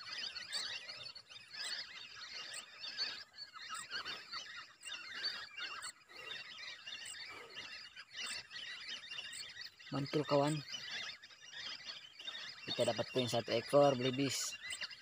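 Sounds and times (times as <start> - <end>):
whistling ducks calling: 0.0 - 15.0.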